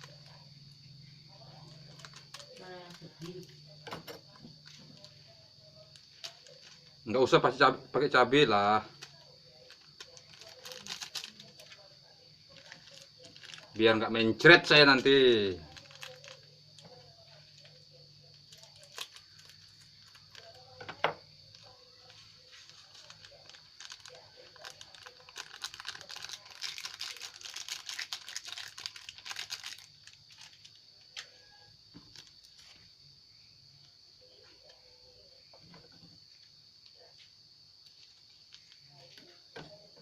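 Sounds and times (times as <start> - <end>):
plastic sachets crinkling: 0.0 - 7.1, 8.3 - 32.8, 37.8 - 39.3.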